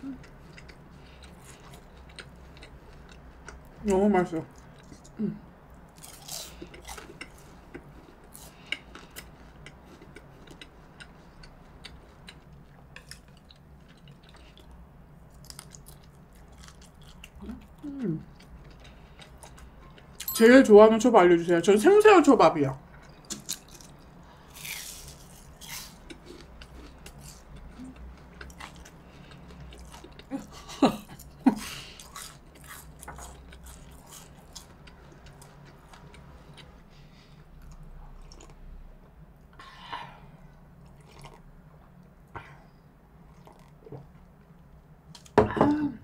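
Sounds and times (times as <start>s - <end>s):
chewing crispy fried food: 0.0s - 20.2s, 23.0s - 39.2s, 40.7s - 42.1s, 43.2s - 45.4s.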